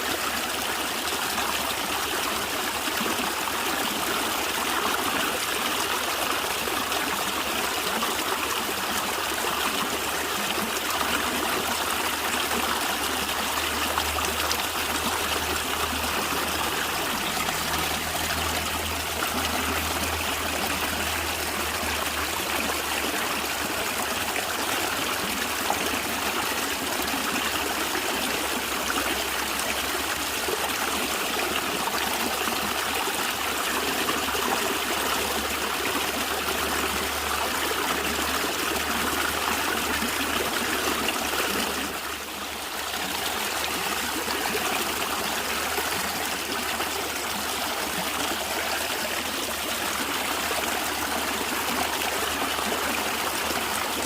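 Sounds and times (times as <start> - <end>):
stream of water gurgling: 0.0 - 54.0.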